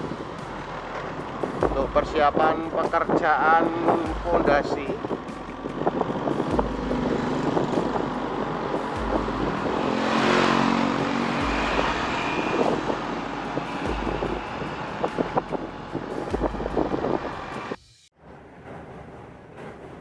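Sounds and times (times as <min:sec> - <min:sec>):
traffic hum: 0:00.0 - 0:20.0
vehicle passing close: 0:00.0 - 0:20.0.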